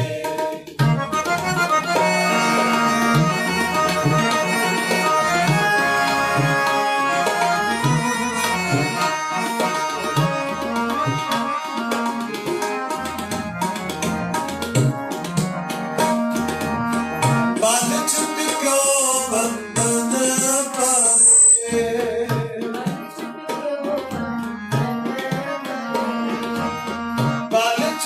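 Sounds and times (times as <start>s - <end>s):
harmonium chords: 0.0s - 28.0s
tabla rhythm: 0.0s - 28.0s.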